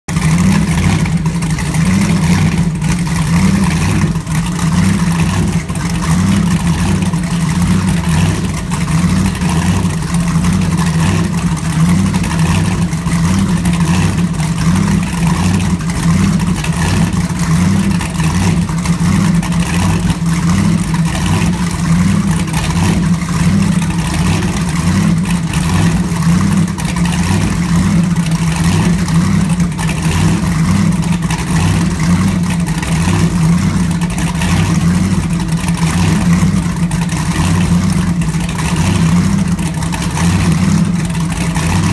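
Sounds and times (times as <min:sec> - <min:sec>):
powerboat engines idling loudly: 0:00.0 - 0:41.9.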